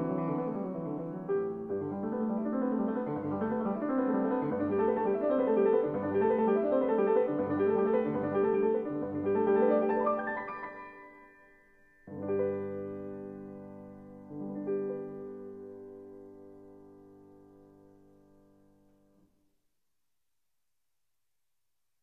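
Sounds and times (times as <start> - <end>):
piano music: 0.0 - 18.6.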